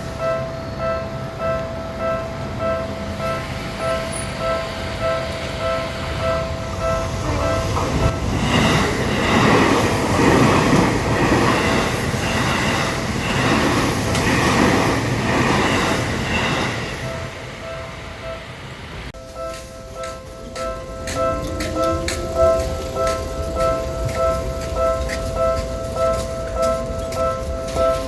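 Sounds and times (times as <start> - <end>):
level crossing bell clanging: 0.0 - 28.0
train wheels rumbling and clattering: 0.0 - 28.0.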